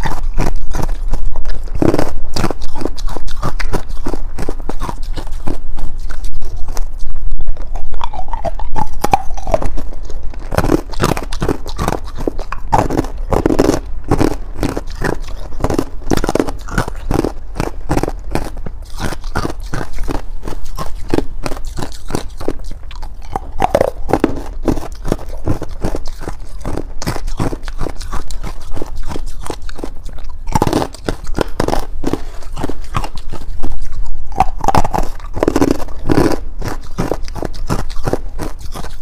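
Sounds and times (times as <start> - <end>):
person crunching ice: 0.0 - 6.8, 8.0 - 39.0.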